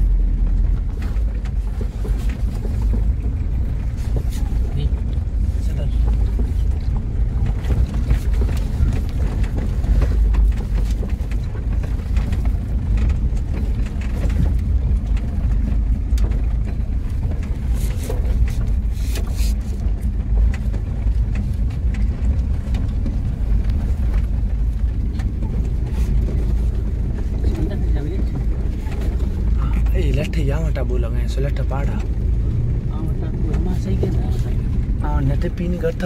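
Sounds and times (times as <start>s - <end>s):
knocks and rattles: 0.0s - 36.0s
vehicle engine and road rumble: 0.0s - 36.0s.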